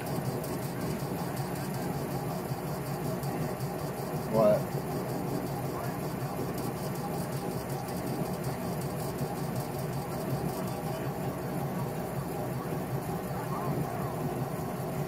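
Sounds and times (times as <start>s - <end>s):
laser engraver humming: 0.0s - 15.0s.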